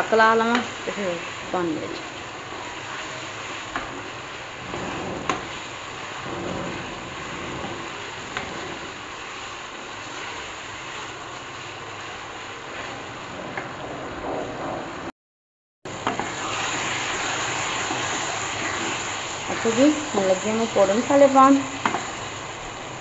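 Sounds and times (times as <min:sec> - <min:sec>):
chicken frying in oil: 0:00.0 - 0:13.8, 0:15.9 - 0:23.0.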